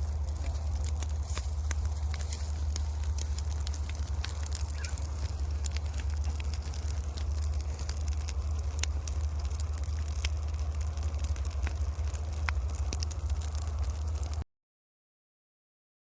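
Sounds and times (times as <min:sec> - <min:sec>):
burning straw crackling and popping: 0:00.0 - 0:14.4
low rumble: 0:00.0 - 0:14.4.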